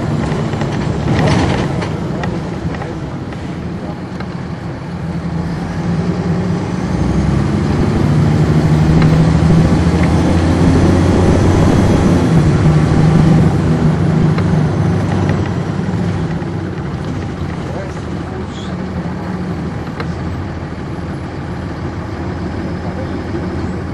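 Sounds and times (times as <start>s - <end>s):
bus diesel engine humming: 0.0s - 23.9s
road noise: 0.0s - 23.9s.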